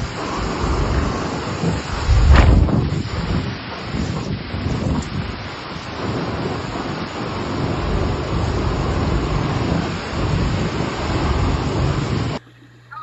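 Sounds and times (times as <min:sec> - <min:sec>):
hurricane wind and rain: 0:00.0 - 0:12.4.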